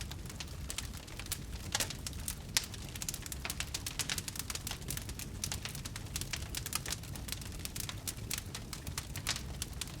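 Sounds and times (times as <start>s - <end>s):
low rumble of flames: 0.0s - 10.0s
wood fire crackling: 0.0s - 10.0s.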